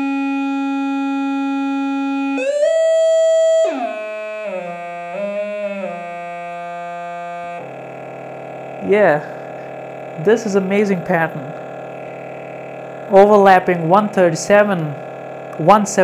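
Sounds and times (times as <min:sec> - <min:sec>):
buzzy electronic test tone: 0:00.0 - 0:16.0.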